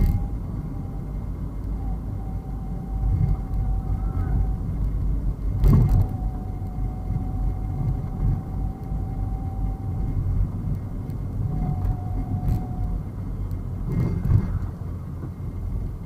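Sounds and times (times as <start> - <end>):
car driving rumble: 0.0 - 16.0
faint steady whine: 0.0 - 16.0.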